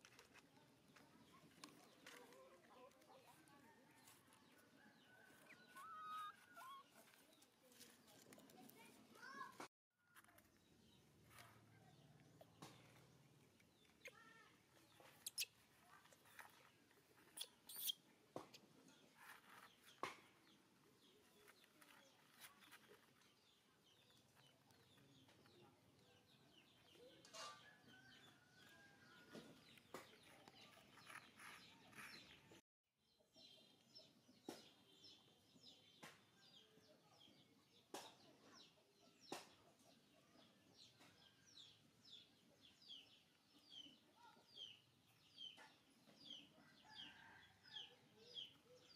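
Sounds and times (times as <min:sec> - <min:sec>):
bird-like chirps and clucking: 0:00.1 - 0:08.3, 0:10.1 - 0:32.6, 0:33.2 - 0:48.9.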